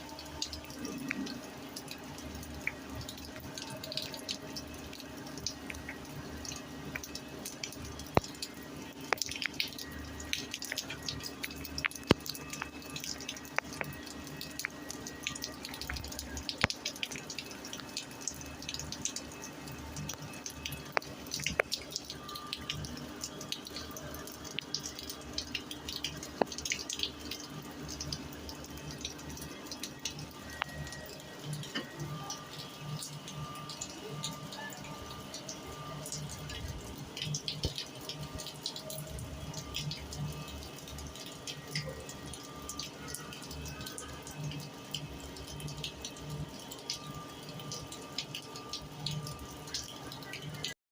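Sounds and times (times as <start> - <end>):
rain falling on concrete: 0.0 - 50.8.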